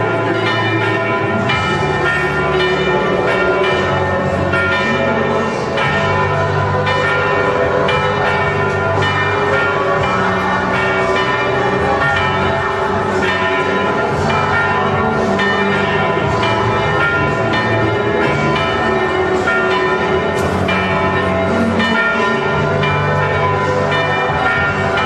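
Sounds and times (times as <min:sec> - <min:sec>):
church bells pealing: 0:00.0 - 0:25.0.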